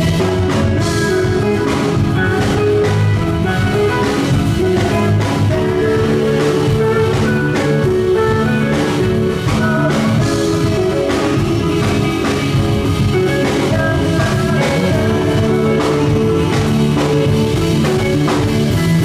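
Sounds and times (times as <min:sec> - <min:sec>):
drums hitting steady pulse: 0:00.0 - 0:19.0
live rock band playing: 0:00.0 - 0:19.0
sustained electric guitar chords: 0:00.0 - 0:19.0.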